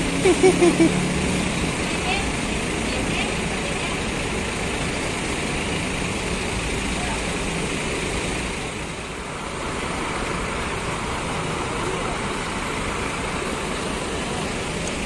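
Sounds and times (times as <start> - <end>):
rumble of buses and traffic: 0.0 - 15.0.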